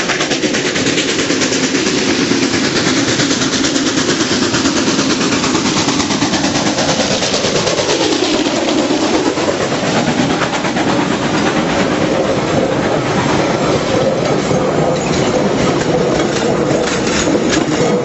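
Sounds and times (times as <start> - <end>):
rumble of running train: 0.0 - 18.0
wheels clicking over rail joints: 0.0 - 18.0.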